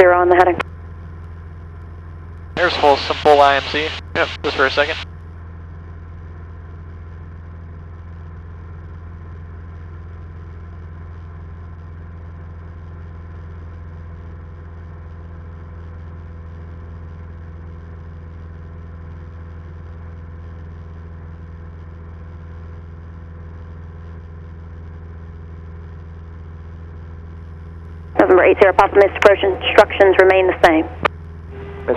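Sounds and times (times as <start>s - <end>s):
light aircraft engine drone: 0.0s - 31.9s
propeller in flight: 0.0s - 31.9s.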